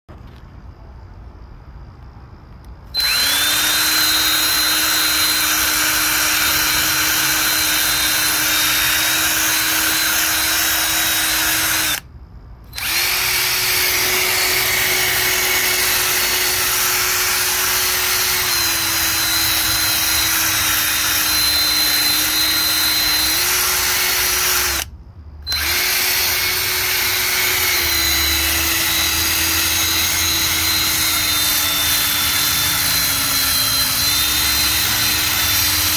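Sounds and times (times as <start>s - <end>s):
power tool spinning: 2.9s - 35.9s.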